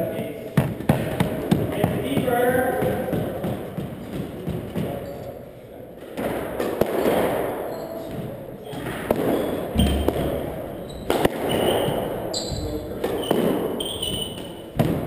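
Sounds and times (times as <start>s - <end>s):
squash ball hitting racquets and walls: 0.5s - 5.1s, 5.9s - 15.0s.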